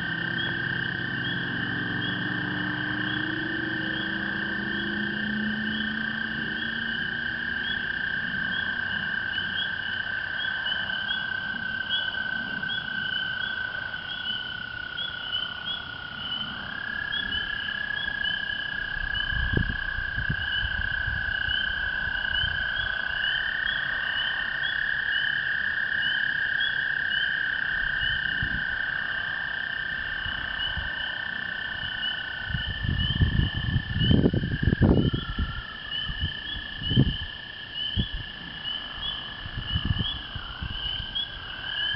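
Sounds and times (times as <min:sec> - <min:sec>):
spring peepers peeping: 0:00.0 - 0:41.9
toads trilling: 0:00.0 - 0:41.9.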